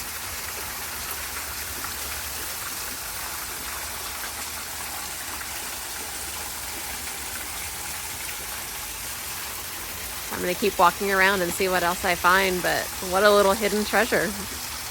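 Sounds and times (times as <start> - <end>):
water splashing down waterfall: 0.0 - 14.9.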